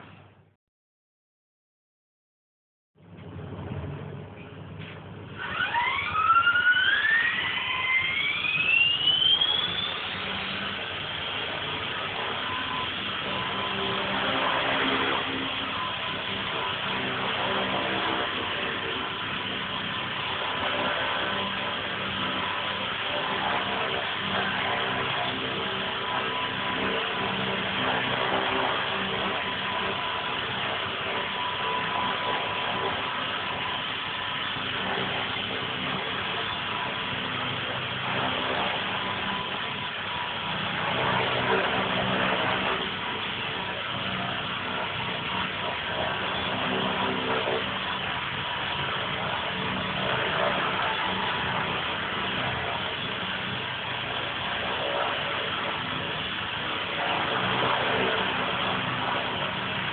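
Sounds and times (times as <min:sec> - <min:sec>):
rc helicopter motor whine: 0:05.3 - 0:59.9
rotor blades whirring: 0:05.3 - 0:59.9.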